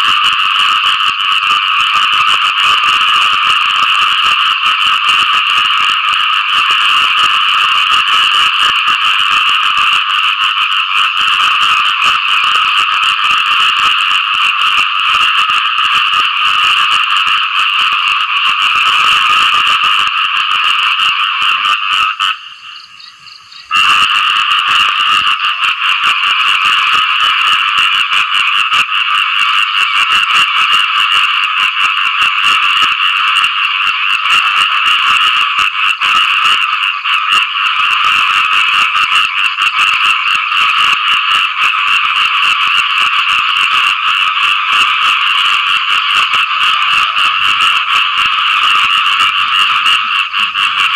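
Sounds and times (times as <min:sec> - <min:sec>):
frogs calling in chorus: 0:00.3 - 0:50.9.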